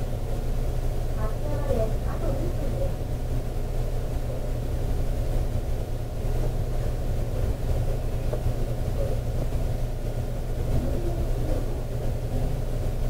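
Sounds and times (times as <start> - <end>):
train car equipment humming: 0.0 - 13.0.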